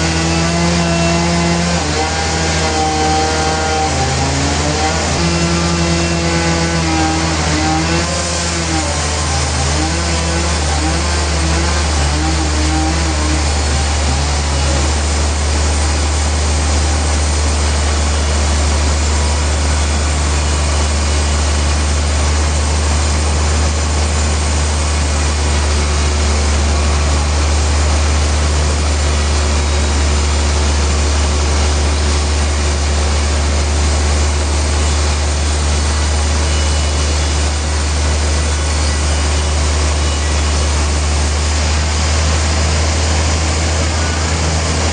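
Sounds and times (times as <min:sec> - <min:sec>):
deep engine drone: 0:00.0 - 0:44.9.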